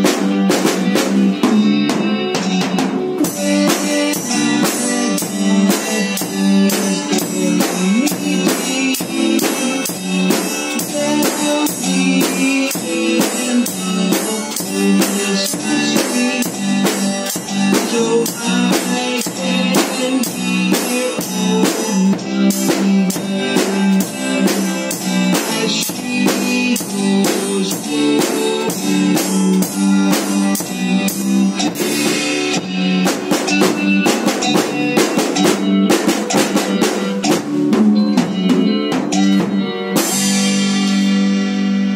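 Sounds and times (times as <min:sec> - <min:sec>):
backing music with guitar: 0:00.0 - 0:41.9
drum kit playing a steady beat: 0:00.0 - 0:41.9.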